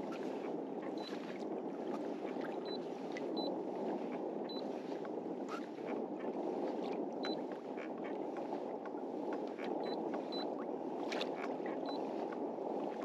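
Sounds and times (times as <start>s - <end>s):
steady water wash: 0.0s - 13.0s
water lapping against hull: 0.0s - 13.0s.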